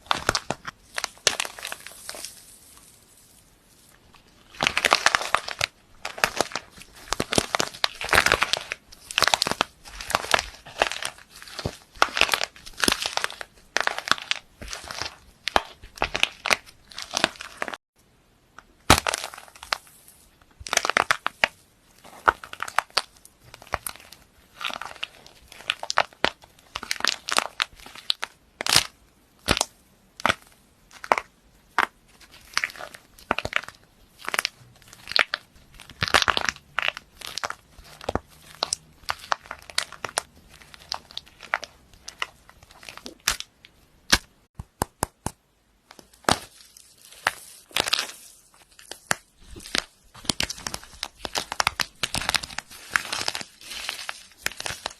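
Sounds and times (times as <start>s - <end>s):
brittle object crackling when crushed: 0.0s - 17.8s, 18.6s - 54.9s.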